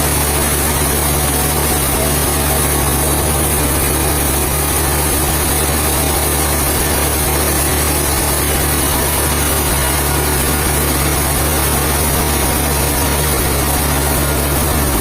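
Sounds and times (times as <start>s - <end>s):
heavy engine running: 0.0s - 15.0s
steady noise: 0.0s - 15.0s.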